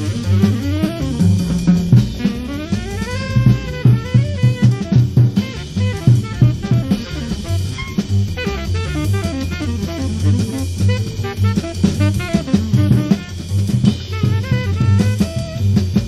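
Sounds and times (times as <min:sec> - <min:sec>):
acoustic bass notes: 0:00.0 - 0:16.0
drum kit swinging rhythms: 0:00.0 - 0:16.0
saxophone melody: 0:00.0 - 0:16.0.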